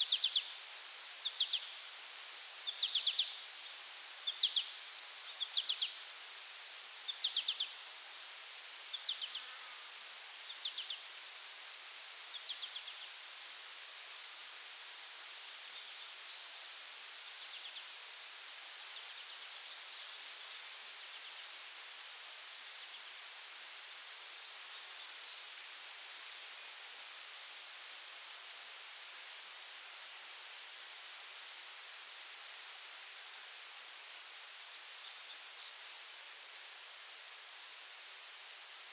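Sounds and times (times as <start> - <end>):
crickets pulsing chirp: 0.0 - 38.9
insects droning: 0.0 - 38.9.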